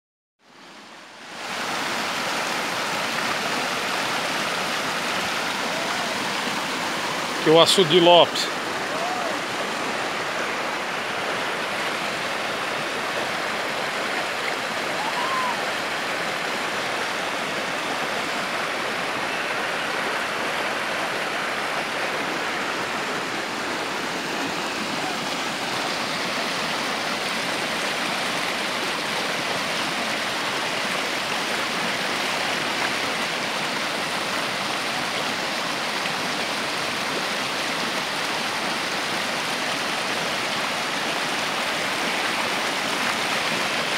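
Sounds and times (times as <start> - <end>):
water rushing over rocks: 0.5 - 43.9.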